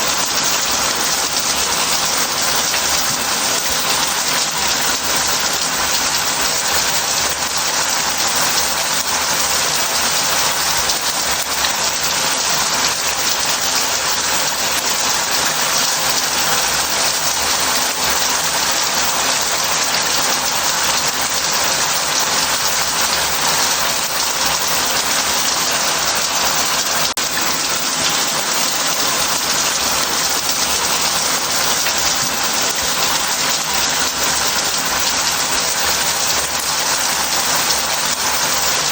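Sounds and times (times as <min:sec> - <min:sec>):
shower spraying into a bath: 0:00.0 - 0:38.9.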